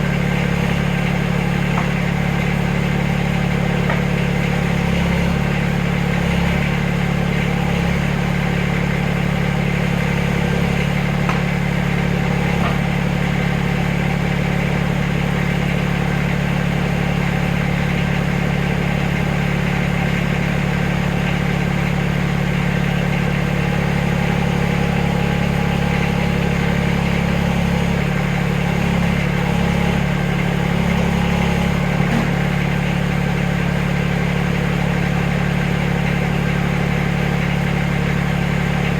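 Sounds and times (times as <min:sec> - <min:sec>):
backhoe engine humming: 0:00.0 - 0:38.9.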